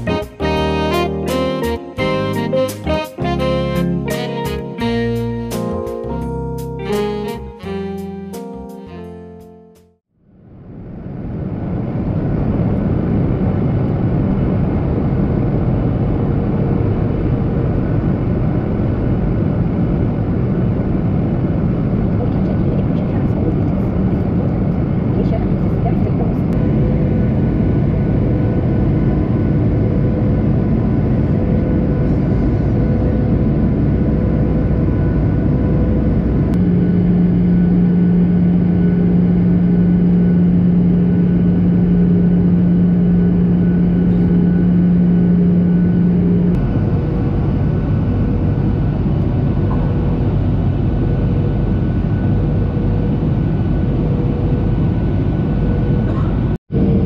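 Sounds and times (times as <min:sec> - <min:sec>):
airliner cabin engine noise: 0:10.2 - 0:57.0.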